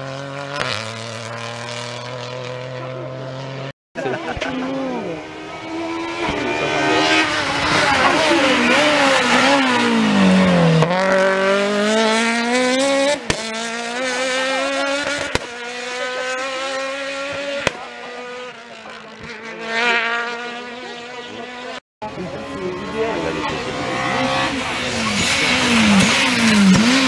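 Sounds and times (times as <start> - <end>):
rally car engine passing: 0.0 - 27.0.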